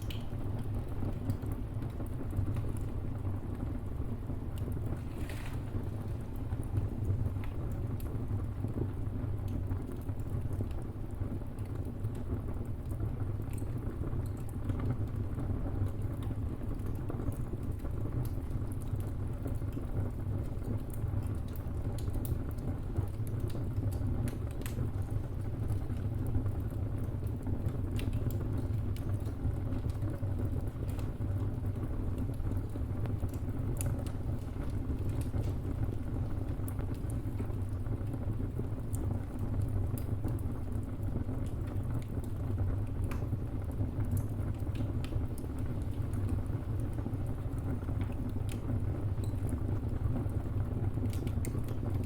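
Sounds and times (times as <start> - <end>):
fire low rumble: 0.0 - 52.0
wood fire crackles and pops: 0.0 - 52.0.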